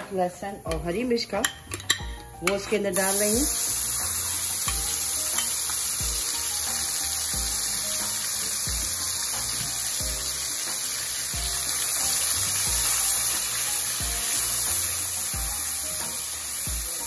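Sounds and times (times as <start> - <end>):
background music with steady beat: 0.0 - 17.0
oil and seeds sizzling in a pan: 0.0 - 17.0.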